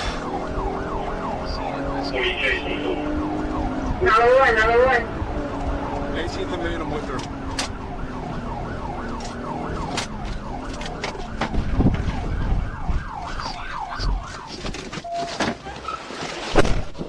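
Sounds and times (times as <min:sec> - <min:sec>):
police siren yelping: 0:00.0 - 0:15.9
car engine and road rumble: 0:00.0 - 0:17.0.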